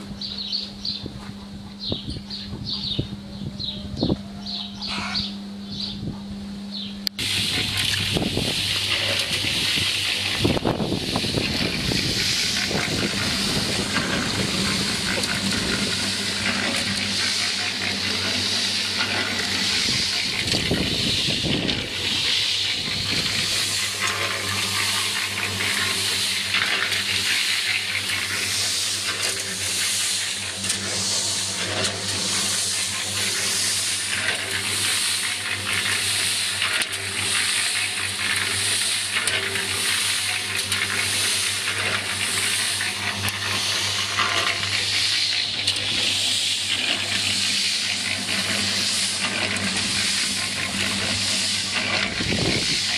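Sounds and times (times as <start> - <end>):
water splashing from hose: 7.2 - 52.9.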